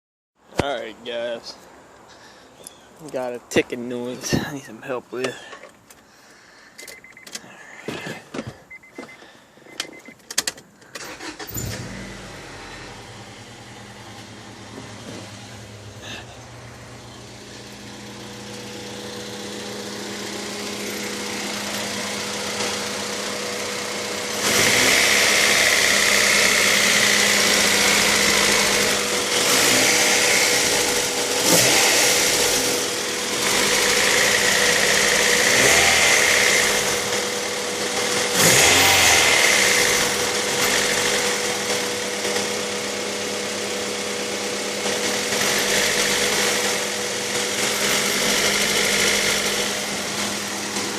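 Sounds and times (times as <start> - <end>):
car engine starting and idling: 8.3 - 50.9.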